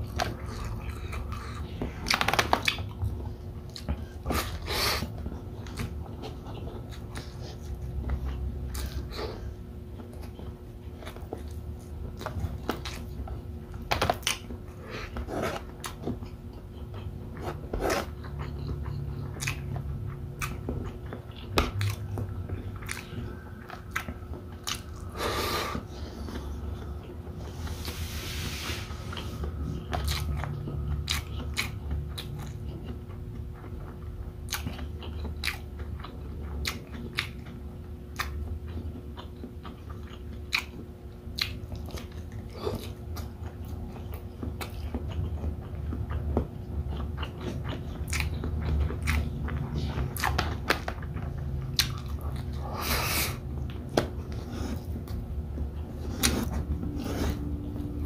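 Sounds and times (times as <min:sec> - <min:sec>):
man chewing food: 0:00.0 - 0:58.0.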